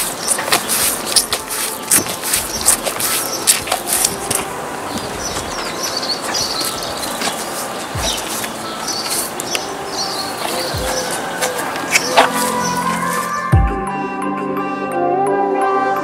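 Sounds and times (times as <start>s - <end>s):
cow licking and rubbing hide: 0.0s - 13.4s
small birds chirping: 0.0s - 13.7s.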